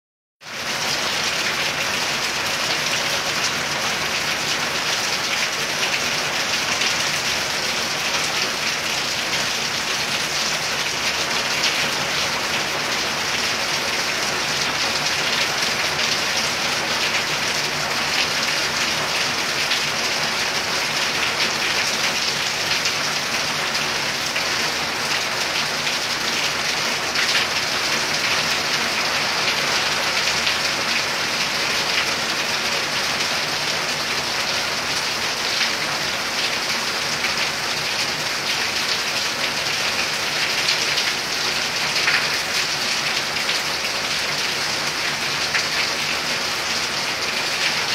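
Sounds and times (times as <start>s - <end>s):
heavy rain pouring: 0.4s - 47.9s.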